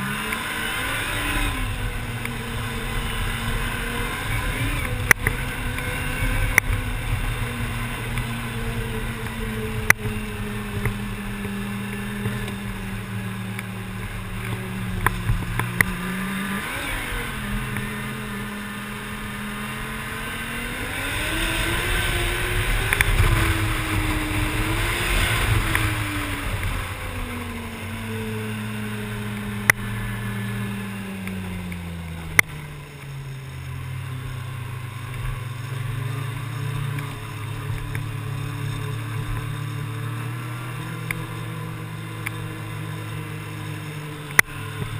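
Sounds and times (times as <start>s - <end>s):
rushing wind: 0.0s - 44.9s
snowmobile engine running: 0.0s - 44.9s
snowmobile track noise: 0.0s - 44.9s.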